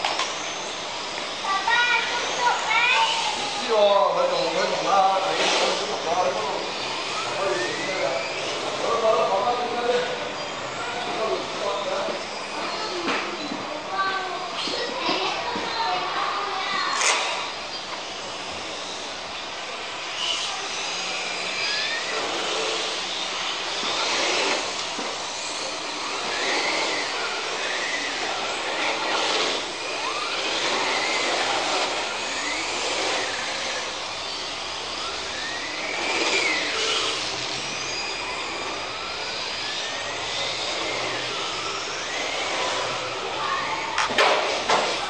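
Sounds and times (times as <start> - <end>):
rc car motor whine: 0.0 - 45.0.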